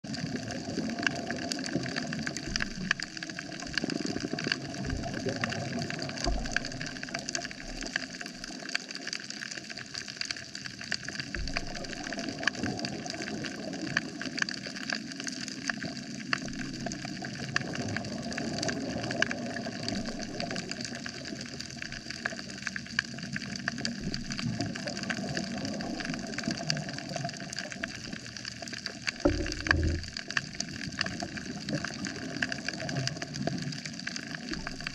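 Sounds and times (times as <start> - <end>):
crackle of tiny clicks: 0.1 - 34.9.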